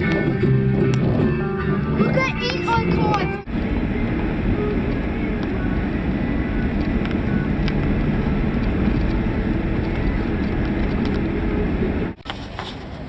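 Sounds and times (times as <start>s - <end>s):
faint engine hum: 0.0s - 13.0s
vehicle driving rumble: 0.0s - 13.0s.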